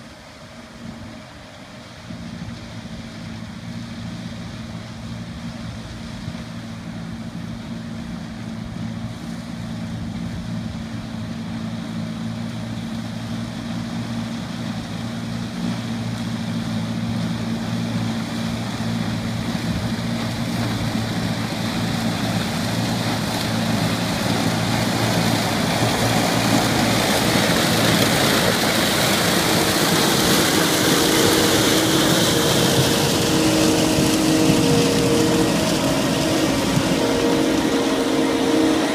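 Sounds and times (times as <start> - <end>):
harvester engine drone: 0.0 - 38.9
rush of machinery noise: 0.0 - 38.9.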